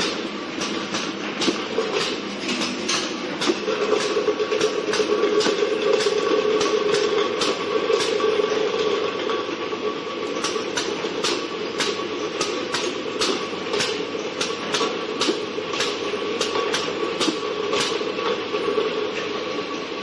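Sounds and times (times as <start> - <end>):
conveyor and machine hum: 0.0 - 20.0.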